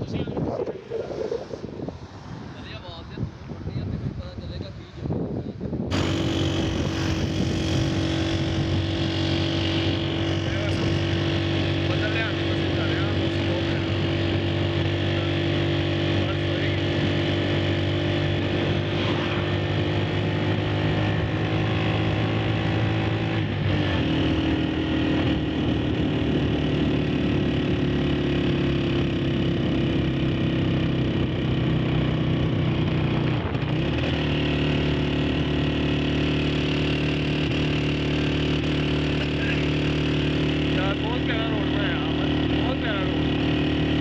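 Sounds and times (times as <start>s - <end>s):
motorcycle engine running: 5.8s - 44.0s.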